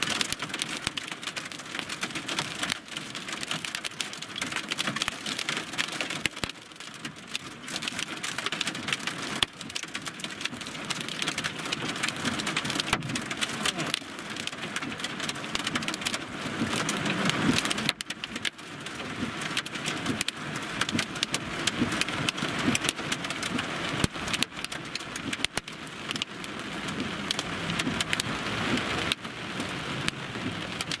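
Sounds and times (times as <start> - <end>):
heavy rain on car roof: 0.0 - 31.0.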